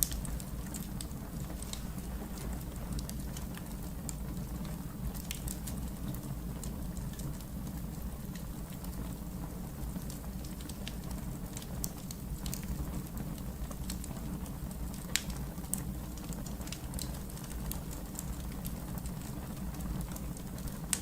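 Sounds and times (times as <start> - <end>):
fire crackling: 0.0 - 21.0
wood fire burning: 0.0 - 21.0.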